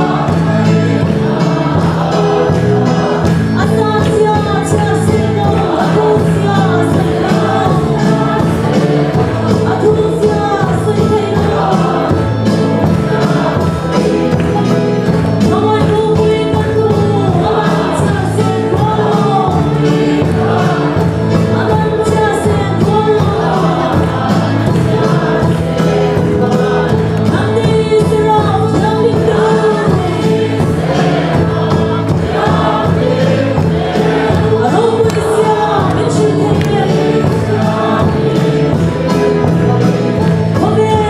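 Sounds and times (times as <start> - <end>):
congregation singing: 0.0 - 41.0.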